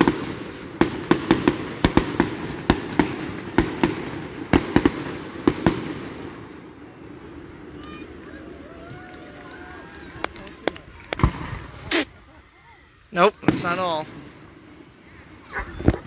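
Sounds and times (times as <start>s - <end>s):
fireworks bangs: 0.0s - 16.0s
rumbling haze: 0.0s - 16.0s.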